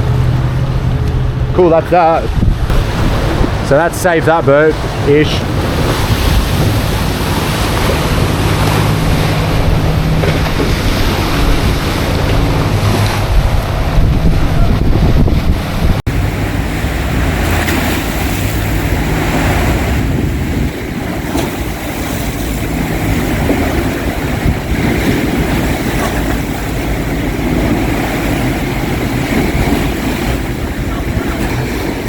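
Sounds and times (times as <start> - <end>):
waves slapping: 0.0 - 32.0
wind buffeting microphone: 0.0 - 32.0.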